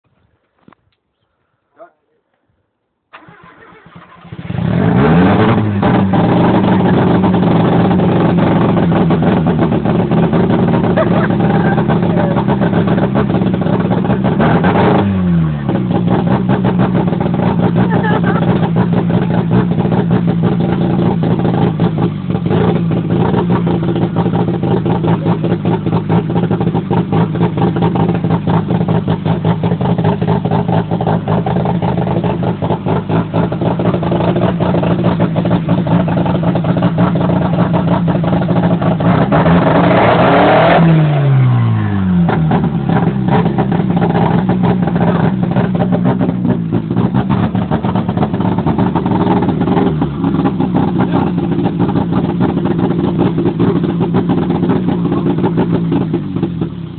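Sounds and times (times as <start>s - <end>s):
unmuffled rotary engine idling and revving: 3.2s - 56.9s.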